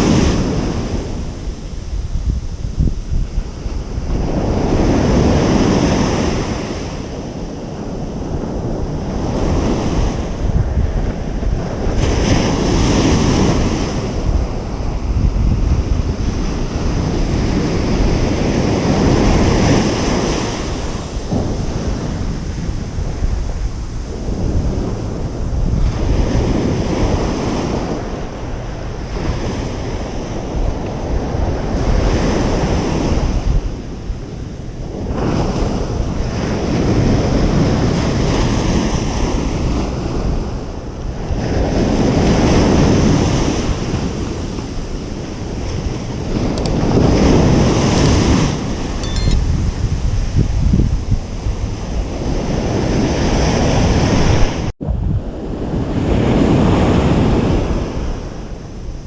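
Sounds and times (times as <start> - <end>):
ocean surf breaking on beach: 0.0 - 49.4, 51.1 - 59.0
wind rumbling on microphone: 0.0 - 59.0.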